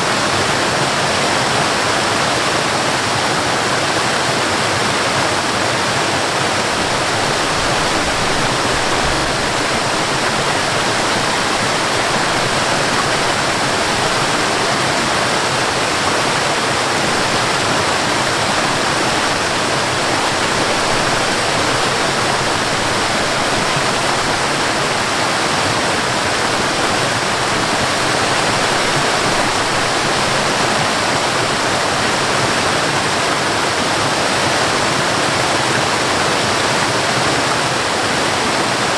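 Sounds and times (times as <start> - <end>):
waterfall crashing: 0.0 - 38.9.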